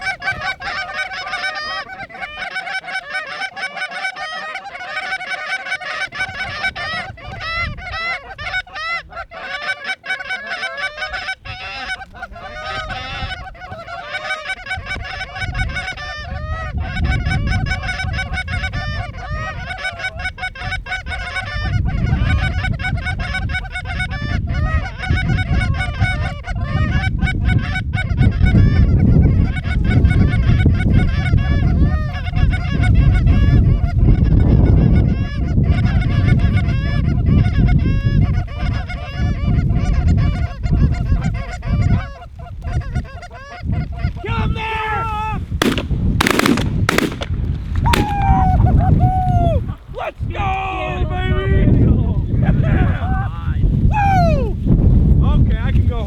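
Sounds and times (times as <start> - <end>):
geese honking: 0.0 - 51.0
wind buffeting microphone: 0.0 - 56.0.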